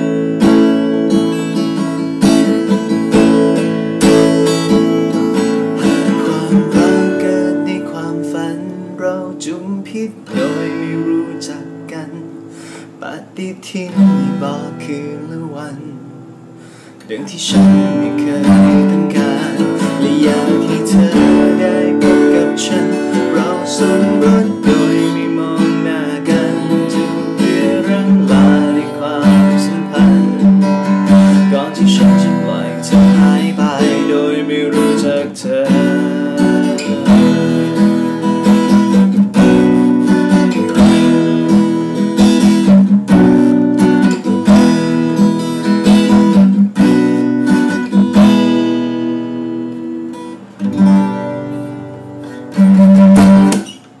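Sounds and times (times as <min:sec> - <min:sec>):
acoustic guitar chords: 0:00.0 - 0:54.0.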